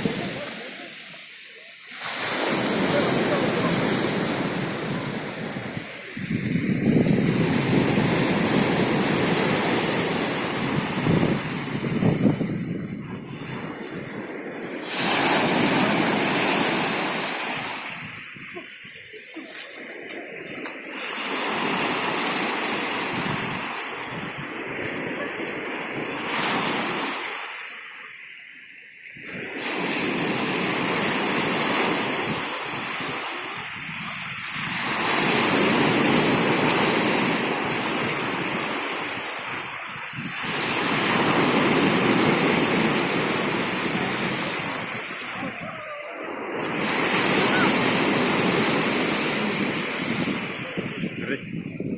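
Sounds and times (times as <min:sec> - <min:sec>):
sea waves washing on shore: 0:00.0 - 0:51.9.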